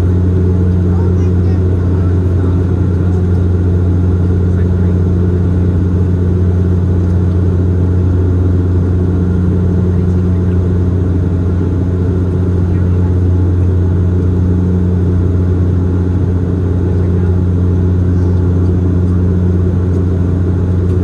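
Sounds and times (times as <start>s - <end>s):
turboprop engines droning in cabin: 0.0s - 21.0s.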